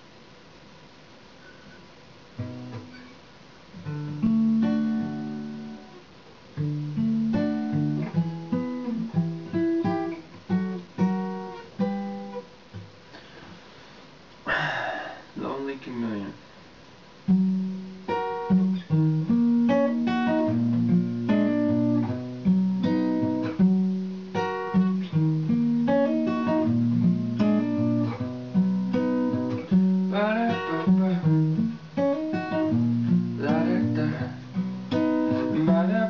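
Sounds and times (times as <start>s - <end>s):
acoustic guitar picking chords: 0.0s - 36.0s.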